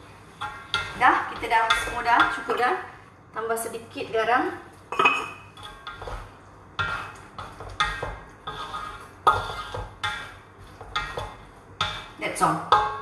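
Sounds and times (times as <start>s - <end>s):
wooden spatula knocking metal wok: 0.0s - 2.8s, 5.0s - 13.0s.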